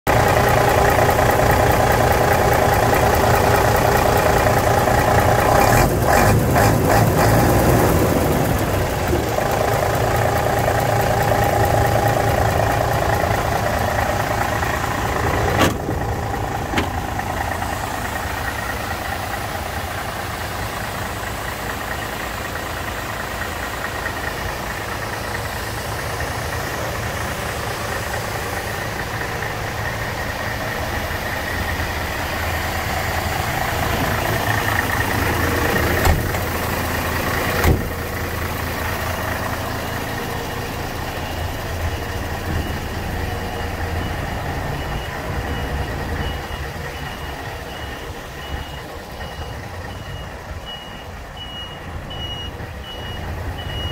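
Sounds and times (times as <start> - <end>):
diesel truck engine idling: 0.1 - 53.9.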